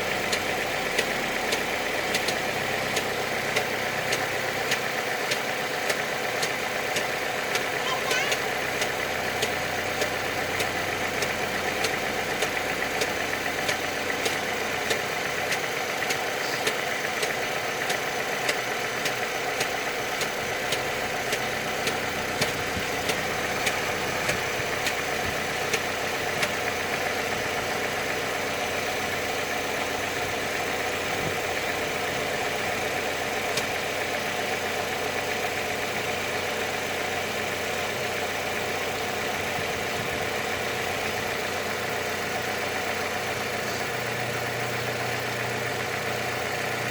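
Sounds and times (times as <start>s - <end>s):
car engine idling: 0.0s - 46.9s
sharp engine ticks: 0.0s - 46.9s.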